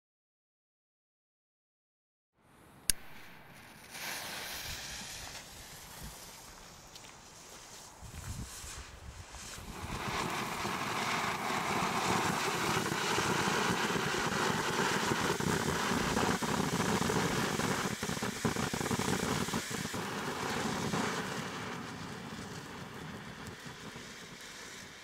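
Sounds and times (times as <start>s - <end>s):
firework crackles: 2.9s - 25.0s
firework fountain hissing: 2.9s - 25.0s.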